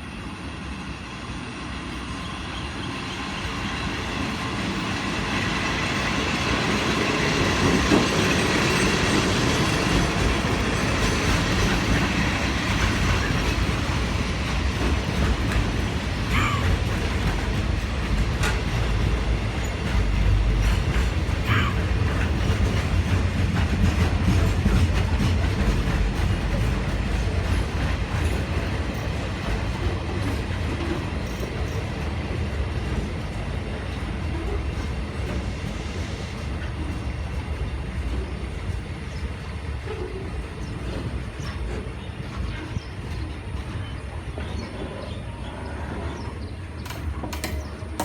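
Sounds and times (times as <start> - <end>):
freight train rumbling: 0.0 - 48.0.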